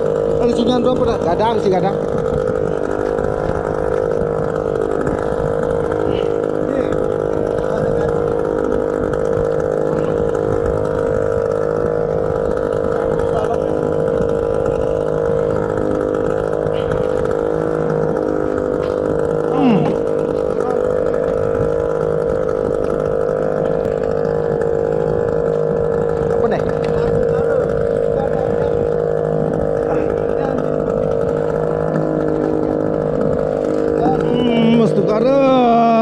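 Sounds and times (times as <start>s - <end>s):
small boat engine droning: 0.0s - 36.0s.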